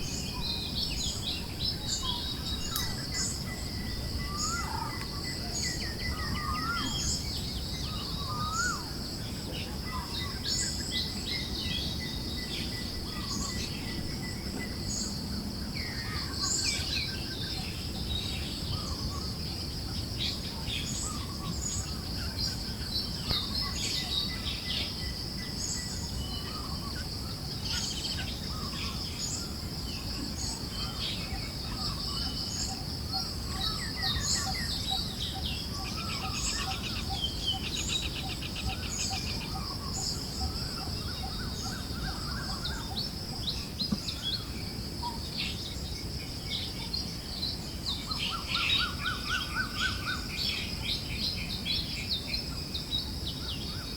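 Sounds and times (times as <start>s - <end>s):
insect drone: 0.0s - 53.9s.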